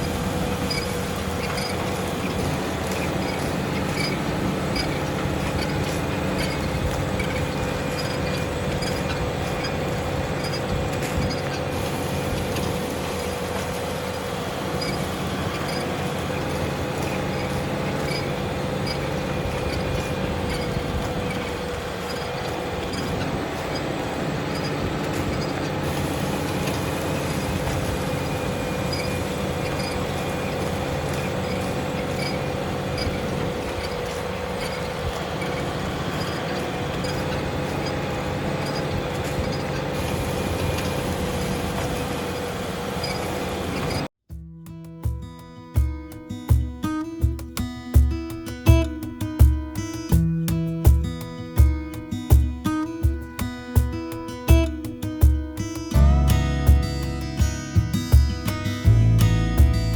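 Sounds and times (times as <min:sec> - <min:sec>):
tractor diesel engine under load: 0:00.0 - 0:44.2, 0:56.0 - 0:59.9.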